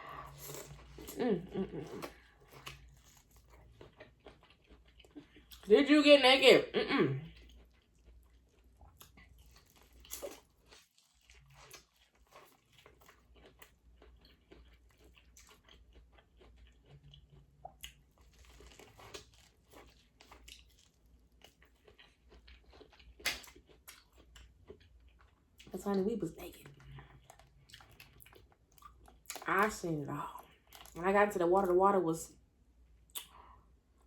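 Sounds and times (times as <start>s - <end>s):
close chewing and crunching: 0.0s - 5.7s, 7.2s - 31.8s.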